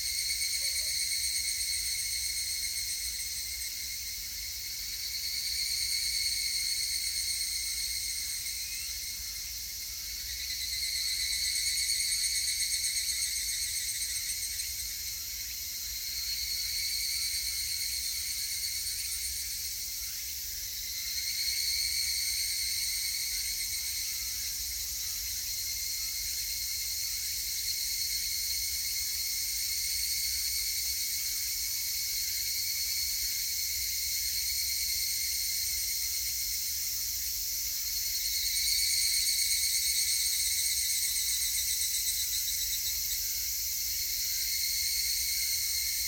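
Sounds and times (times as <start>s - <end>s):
cicadas calling in chorus: 0.0s - 46.0s.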